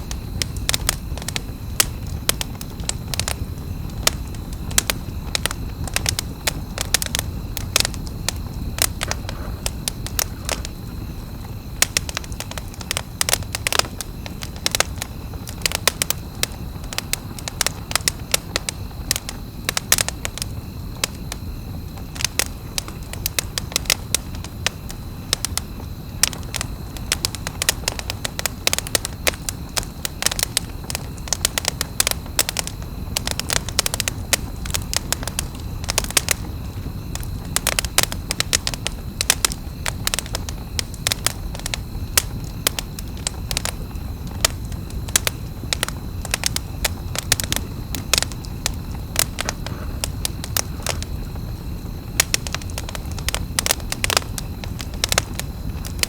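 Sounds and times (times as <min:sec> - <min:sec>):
campfire crackling and popping: 0:00.0 - 0:56.0
low rush of flame: 0:00.0 - 0:56.0.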